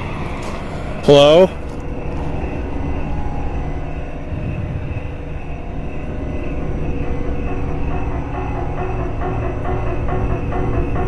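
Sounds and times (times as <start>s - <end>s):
steady low rumble: 0.0s - 10.5s
faint steady hums: 0.0s - 11.0s.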